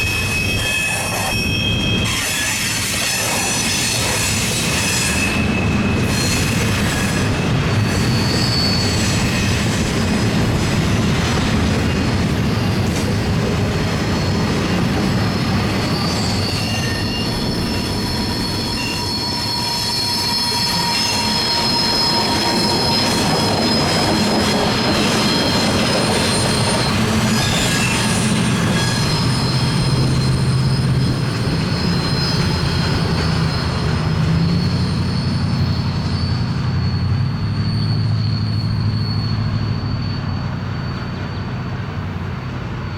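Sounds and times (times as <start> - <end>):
rumble of train cars: 0.0 - 42.9
train wheels squealing on rail: 0.0 - 42.9.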